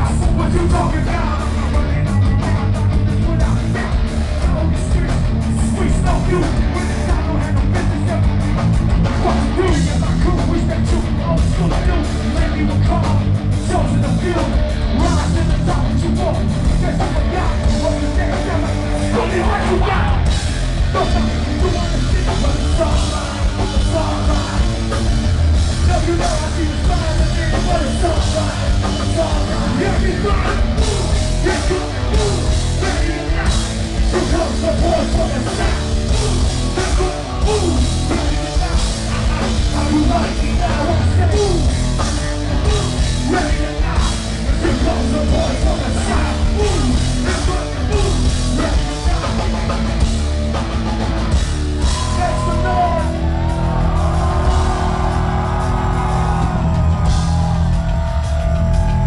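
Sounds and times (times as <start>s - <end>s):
vocalist rapping and yelling: 0.0s - 8.4s, 9.1s - 24.9s, 25.7s - 49.8s, 51.9s - 53.3s
live rap metal band: 0.0s - 59.0s.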